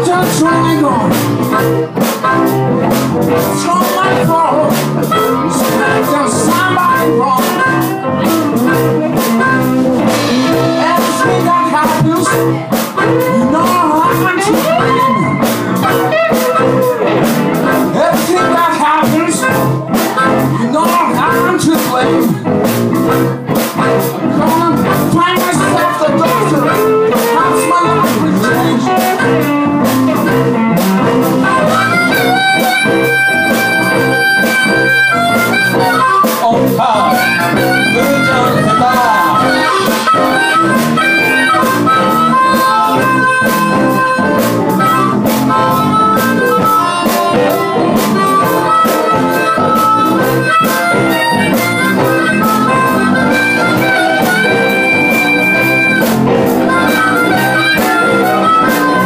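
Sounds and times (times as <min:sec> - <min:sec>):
harmonica holding long notes: 0:00.0 - 0:59.0
live blues band: 0:00.0 - 0:59.0.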